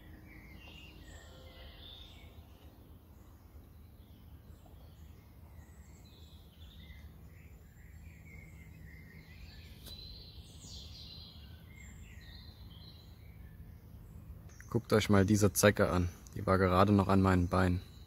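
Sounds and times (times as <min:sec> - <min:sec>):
birds chirping faintly: 0:00.0 - 0:18.0
steady low hum: 0:00.0 - 0:18.0.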